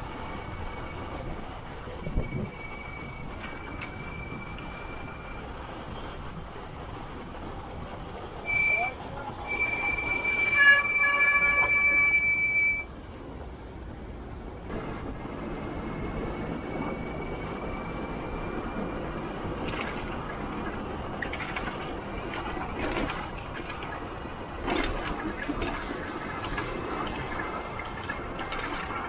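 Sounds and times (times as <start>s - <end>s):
city street traffic: 0.0s - 29.0s.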